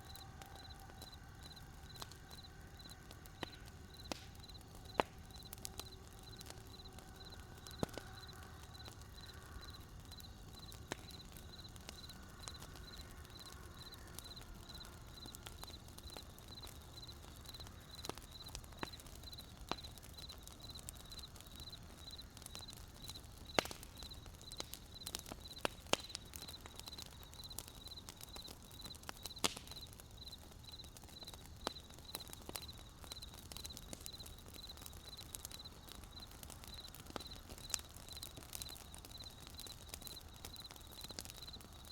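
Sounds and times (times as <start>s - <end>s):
crickets chirping: 0.0s - 4.6s, 6.2s - 25.7s, 26.4s - 41.9s
campfire crackling and popping: 0.0s - 41.9s
low burning hiss: 0.0s - 41.9s.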